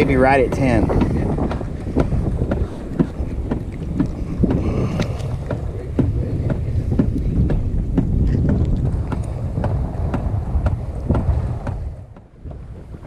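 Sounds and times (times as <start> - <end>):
water slapping against hull: 0.0 - 13.0
wind buffeting microphone: 0.0 - 13.0.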